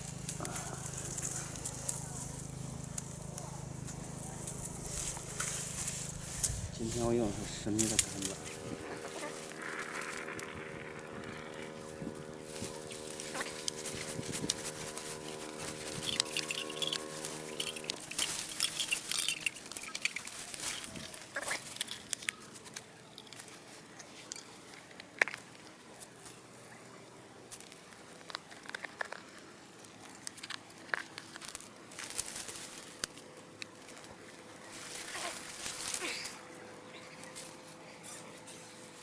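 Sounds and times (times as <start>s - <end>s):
rustling and crinkling: 0.0s - 39.0s.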